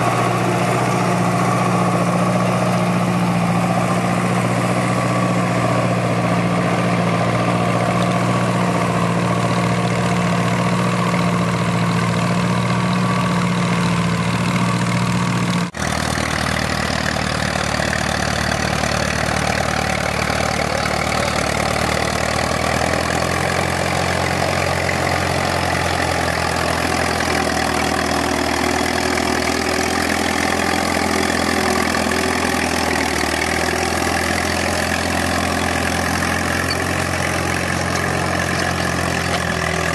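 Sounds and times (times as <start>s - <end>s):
tractor engine running steadily: 0.0s - 39.9s
tractor engine with deeper note: 0.0s - 39.9s.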